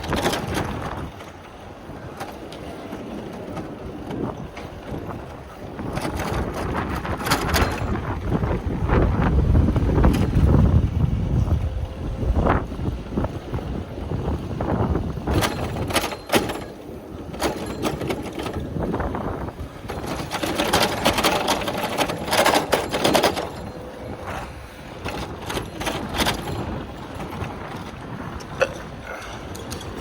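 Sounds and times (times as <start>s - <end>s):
bicycle rattling over pavement: 0.0s - 30.0s.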